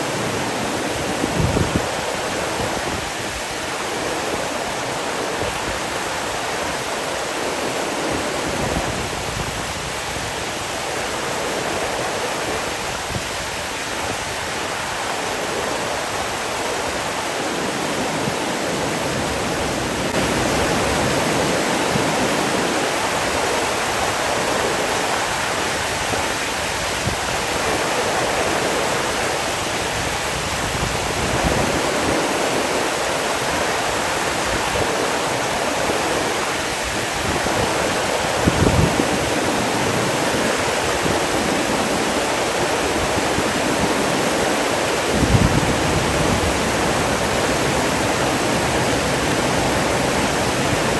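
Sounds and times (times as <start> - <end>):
running water: 0.0 - 50.9.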